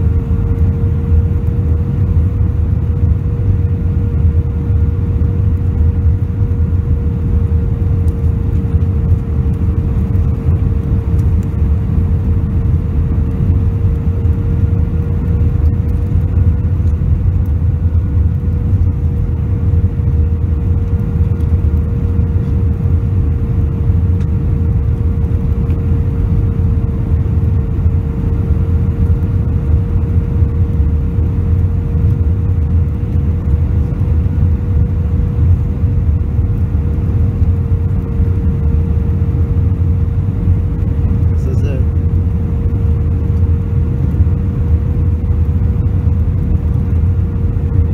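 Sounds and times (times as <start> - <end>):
airliner cabin engine rumble: 0.0 - 47.9
constant cabin hum: 0.0 - 47.9.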